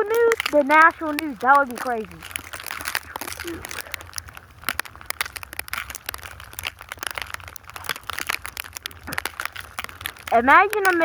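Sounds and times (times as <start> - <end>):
snow crunching: 0.0 - 11.0.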